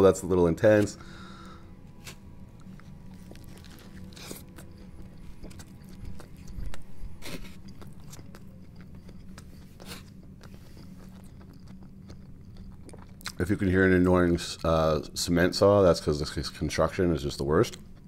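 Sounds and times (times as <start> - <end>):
low machine hum: 0.0 - 18.0
chewing toasted sandwich: 1.3 - 15.1, 16.1 - 18.0.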